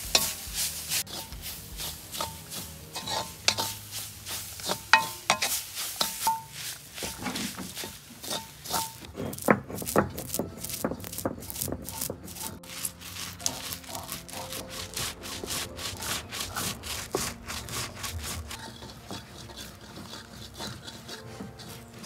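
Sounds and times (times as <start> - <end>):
spoon scraping in clay pot: 0.0 - 22.0
stone roller grinding peppercorns: 0.0 - 22.0.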